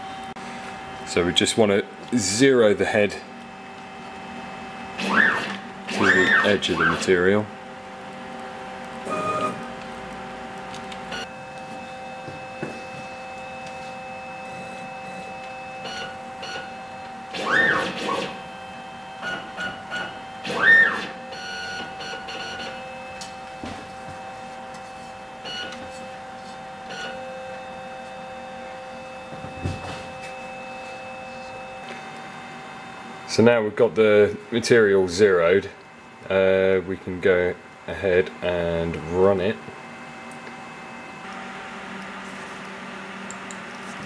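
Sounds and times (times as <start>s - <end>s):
machine high whine: 0.0s - 44.0s.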